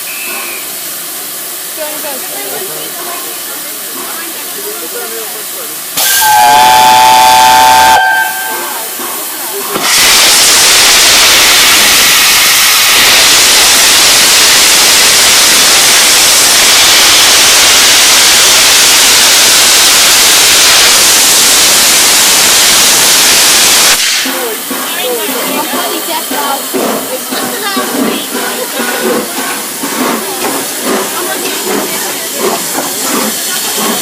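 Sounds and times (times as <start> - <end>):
steam locomotive hissing: 0.0 - 34.0.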